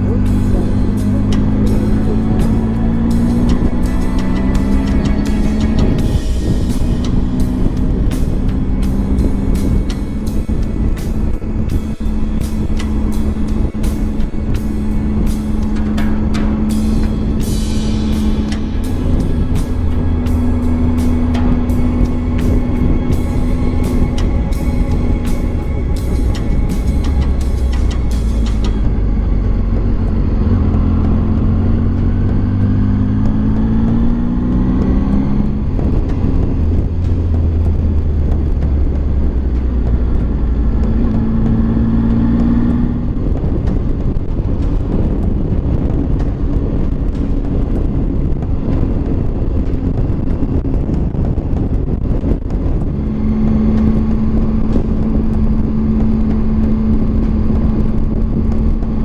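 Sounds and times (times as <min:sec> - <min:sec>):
motorcycle engine accelerating: 0:00.0 - 0:59.0
wind on microphone: 0:00.0 - 0:59.0.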